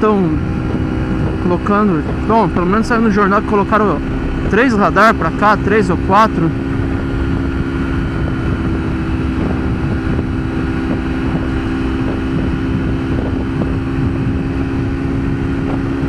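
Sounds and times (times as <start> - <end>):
motorcycle engine cruising: 0.0 - 16.0
wind rumbling over helmet: 0.0 - 16.0.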